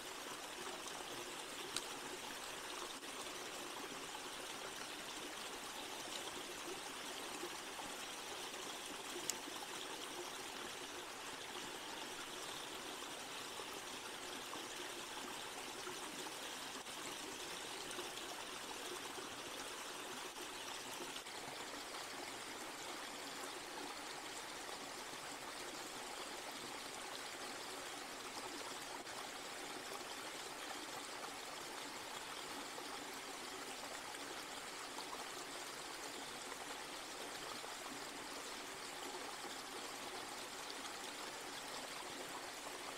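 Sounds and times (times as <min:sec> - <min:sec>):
stream water over rocks: 0:00.0 - 0:42.9.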